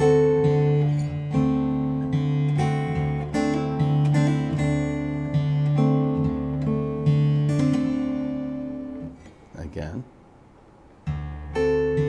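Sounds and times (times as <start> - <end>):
fingerstyle acoustic guitar: 0.0 - 9.5, 11.0 - 12.0.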